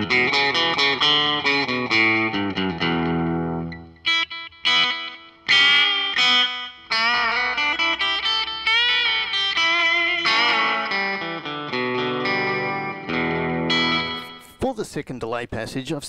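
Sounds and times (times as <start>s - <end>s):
electric guitar with slapback delay: 0.0s - 14.5s.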